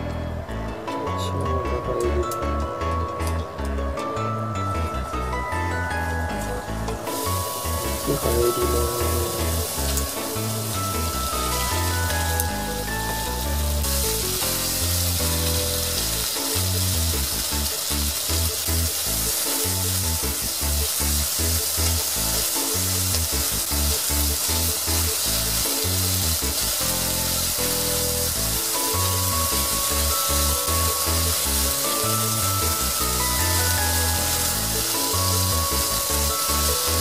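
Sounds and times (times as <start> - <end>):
background music with beat: 0.0 - 37.0
pork sizzling in hot oil: 2.2 - 37.0
chopsticks stirring in a pan: 6.3 - 37.0.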